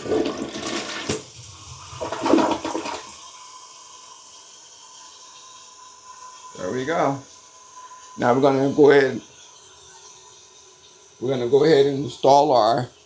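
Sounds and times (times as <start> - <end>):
toilet flushing: 0.0 - 13.0.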